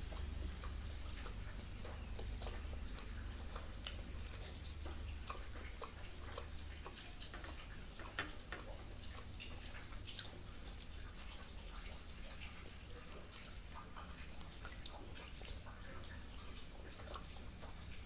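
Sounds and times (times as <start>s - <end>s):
chewing mouth sounds: 0.0s - 18.0s.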